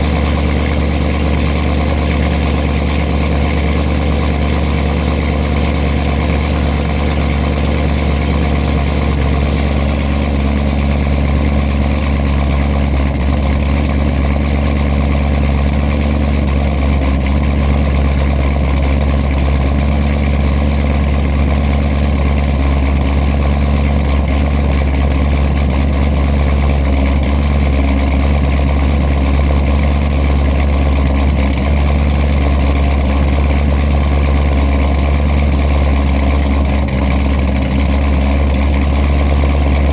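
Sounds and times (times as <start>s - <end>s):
car engine idling choppily: 0.0s - 39.9s.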